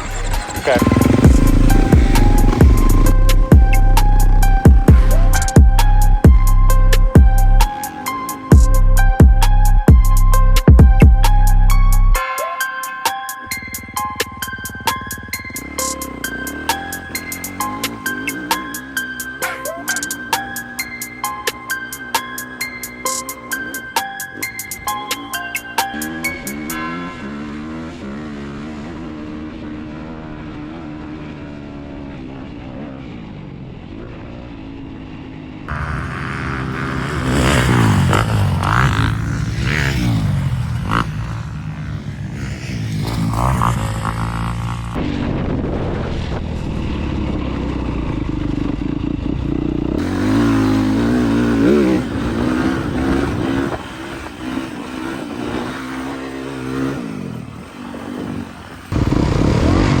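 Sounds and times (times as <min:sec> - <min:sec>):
off-road vehicle engine revving: 0:00.0 - 0:12.2, 0:13.4 - 0:34.9, 0:35.6 - 1:00.0.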